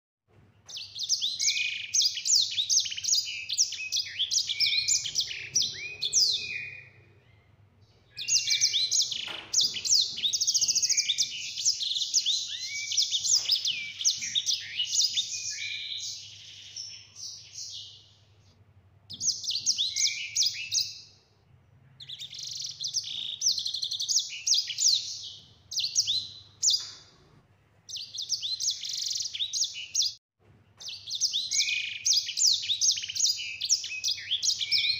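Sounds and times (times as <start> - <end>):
songbird chirps and trills: 0.6 - 27.2, 27.9 - 34.9.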